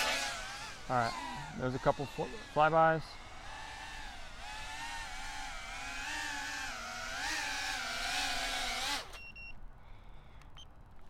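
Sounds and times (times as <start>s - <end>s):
drone buzzing whine: 0.0s - 9.3s.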